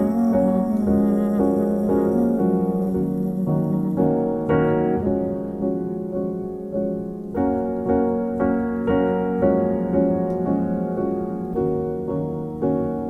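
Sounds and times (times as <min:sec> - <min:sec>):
gentle piano chords: 0:00.0 - 0:13.0.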